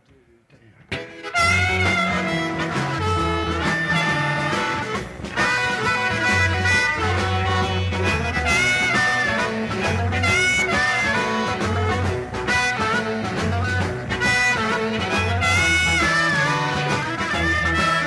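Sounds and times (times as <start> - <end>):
drums: 0.0 - 18.0
electric guitar: 0.9 - 18.0
repeating bass line: 1.4 - 18.0.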